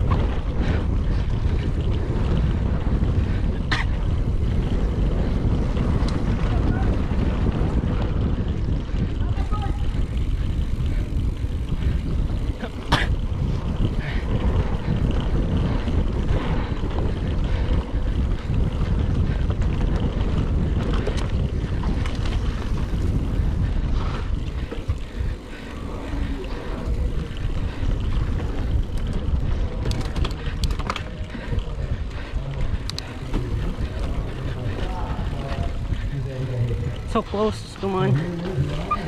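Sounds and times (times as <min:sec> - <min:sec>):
bike clicks and rattles: 0:00.0 - 0:39.0
bike tyres rumbling on dirt: 0:00.0 - 0:39.0
wind buffeting microphone: 0:00.0 - 0:39.0.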